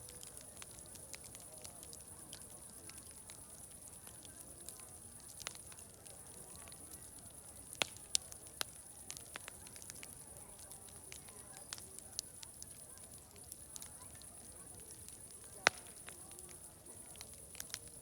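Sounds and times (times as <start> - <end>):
distant crowd chatter: 0.0 - 18.0
wood fire crackling and popping: 0.0 - 18.0.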